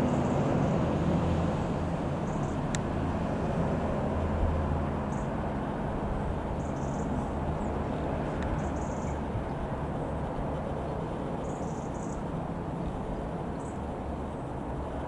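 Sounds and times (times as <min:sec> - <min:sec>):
distant light aircraft engine droning: 0:00.0 - 0:15.0.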